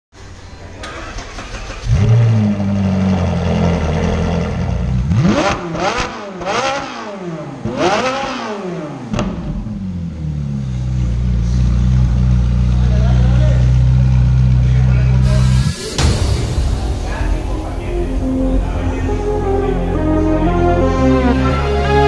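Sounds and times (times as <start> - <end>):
car engine starting and idling: 0.2 - 5.1, 9.1 - 22.0
car engine revving: 0.8 - 12.9, 13.6 - 22.0.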